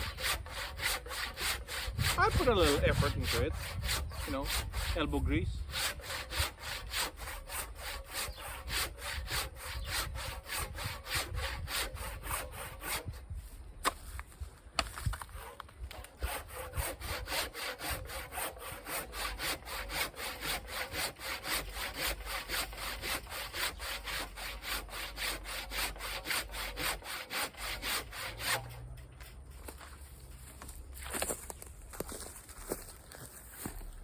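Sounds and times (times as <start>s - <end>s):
hand saw cutting log: 0.0s - 14.2s, 14.8s - 30.0s.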